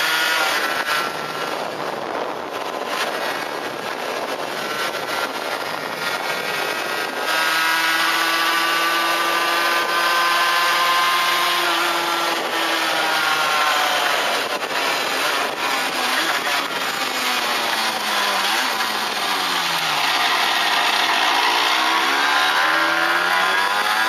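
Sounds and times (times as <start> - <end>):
two-stroke engine at high revs: 0.0 - 24.0
wind rushing over microphone: 0.1 - 24.0.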